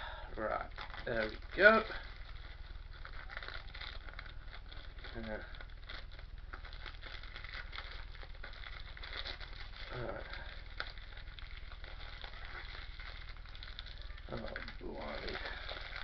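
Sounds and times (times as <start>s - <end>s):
plastic shrink-wrap crinkling: 0.0s - 16.0s.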